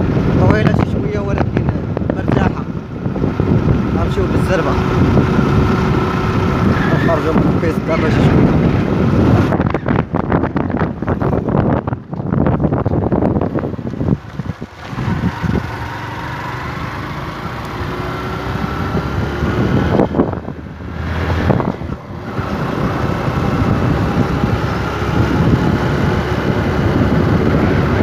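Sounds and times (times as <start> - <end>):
vehicle engine running: 0.0 - 28.0
wind buffeting microphone: 0.0 - 28.0.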